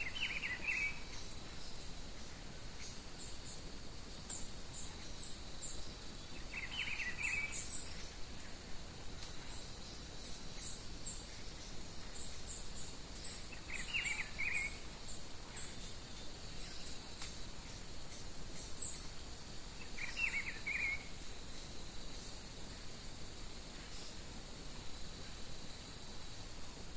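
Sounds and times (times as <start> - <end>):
faint insect hum: 0.0 - 26.9.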